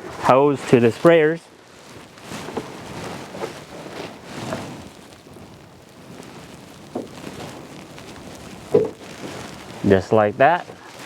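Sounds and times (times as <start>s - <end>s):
hose handling rustle: 0.0s - 11.0s.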